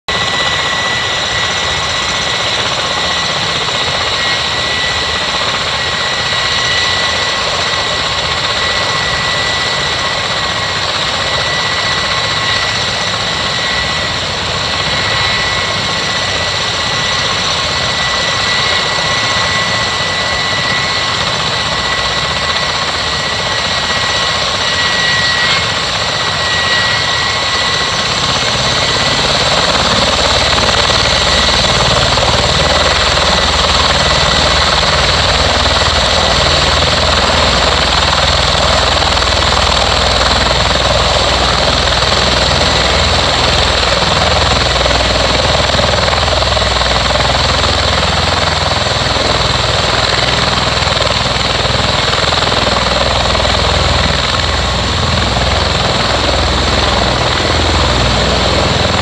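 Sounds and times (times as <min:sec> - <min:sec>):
aircraft engines whining: 0:00.1 - 0:59.0.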